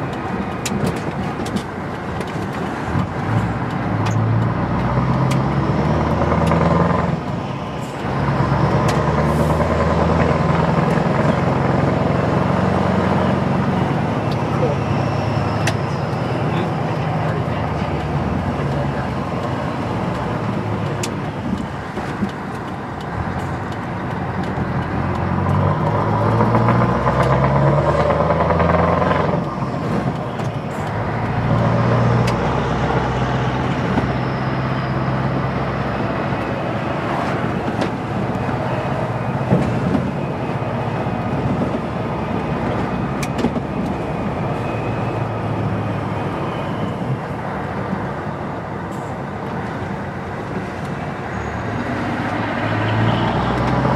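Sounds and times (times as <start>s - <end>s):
truck diesel engine revving: 2.8s - 21.9s, 22.8s - 48.3s, 50.1s - 53.9s.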